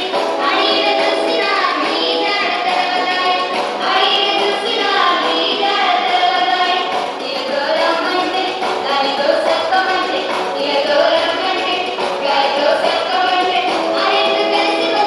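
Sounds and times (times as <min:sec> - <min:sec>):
folk singing: 0:00.0 - 0:15.0
instrumental accompaniment: 0:00.0 - 0:15.0.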